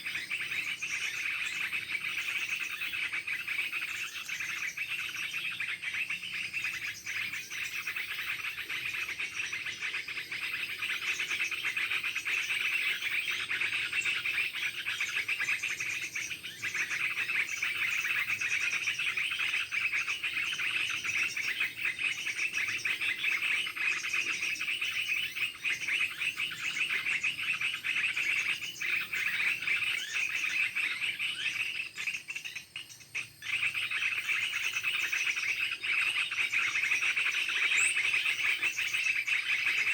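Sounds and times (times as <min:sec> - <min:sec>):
birds and insects chirping: 0:00.0 - 0:39.9.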